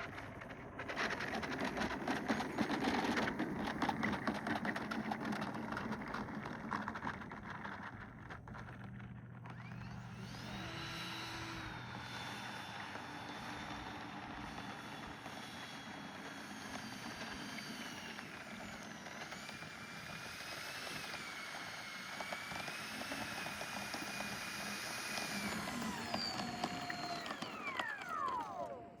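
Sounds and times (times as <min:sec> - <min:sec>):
electric ducted fans whining: 0:00.0 - 0:29.0.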